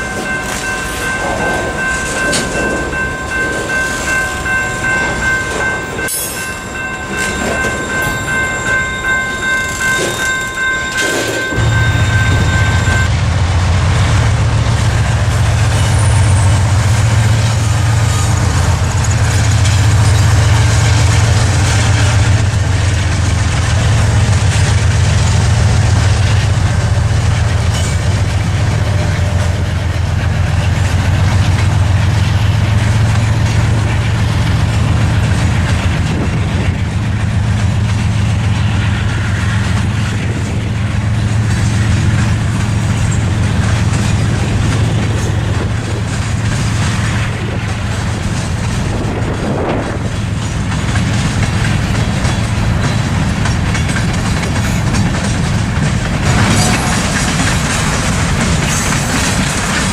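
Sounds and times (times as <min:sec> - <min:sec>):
wheels on rails: 0:00.0 - 0:13.2, 0:14.0 - 0:59.9
train rumbling past: 0:00.0 - 0:59.9.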